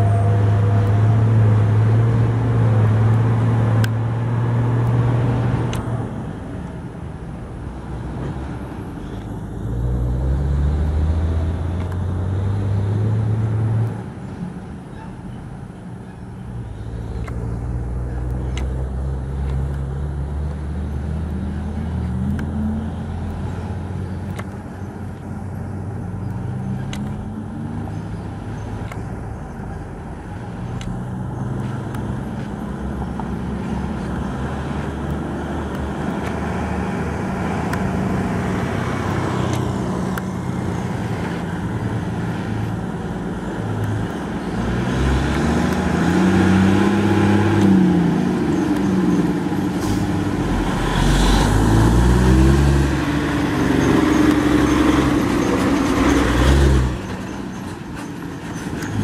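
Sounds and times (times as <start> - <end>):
truck diesel engine labouring: 0.0 - 59.0.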